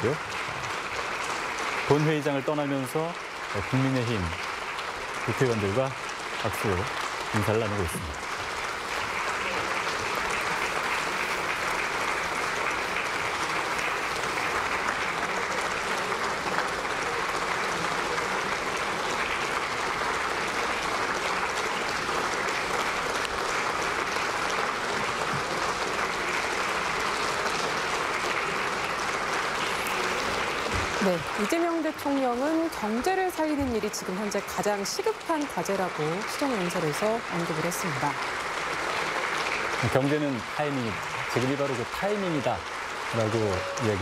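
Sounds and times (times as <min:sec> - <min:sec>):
audience applauding: 0:00.0 - 0:44.0.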